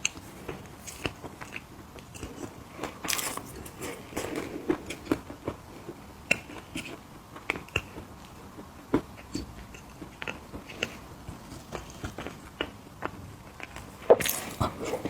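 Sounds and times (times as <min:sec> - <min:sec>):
cookie chewing crunches: 0:00.0 - 0:15.0.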